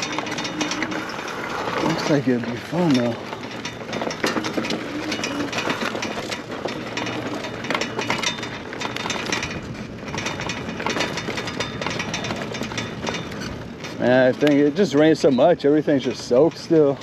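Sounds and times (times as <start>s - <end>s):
bike frame rattling: 0.0s - 17.0s
tyres rolling over dirt: 0.0s - 17.0s.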